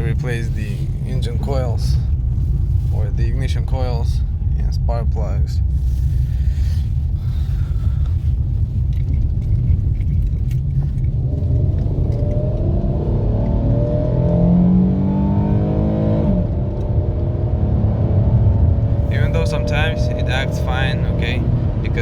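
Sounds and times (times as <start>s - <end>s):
car engine accelerating: 0.0s - 22.0s
road rumble: 0.0s - 22.0s.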